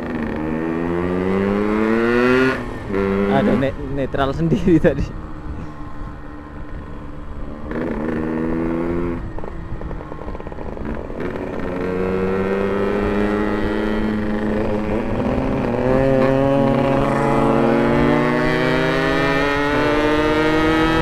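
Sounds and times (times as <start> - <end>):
motorcycle engine revving: 0.0 - 3.9, 6.6 - 21.0.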